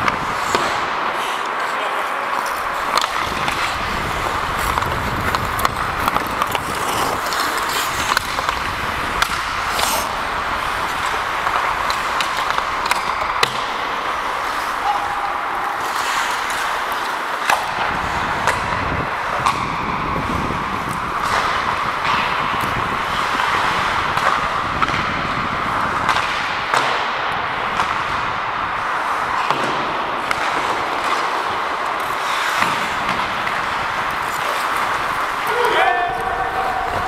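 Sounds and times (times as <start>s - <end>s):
hockey sticks and puck clacking: 0.0s - 37.0s
skate blades scraping ice: 0.0s - 37.0s.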